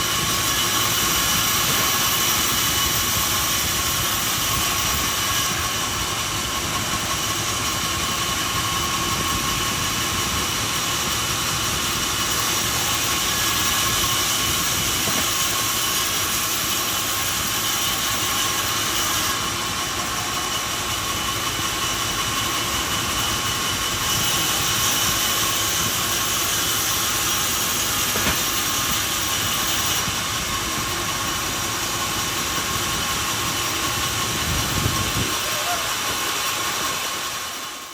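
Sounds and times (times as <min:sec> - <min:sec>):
sawmill machinery hiss and whine: 0:00.0 - 0:37.9.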